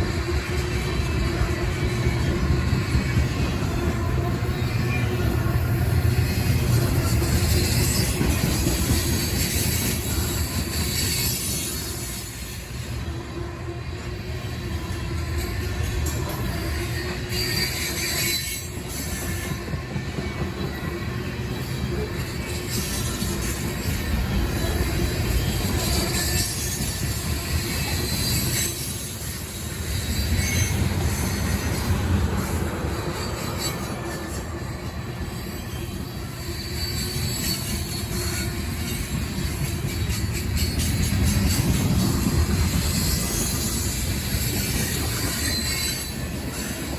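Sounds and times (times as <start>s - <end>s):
freight train wheels rumbling on rail: 0.0s - 46.9s.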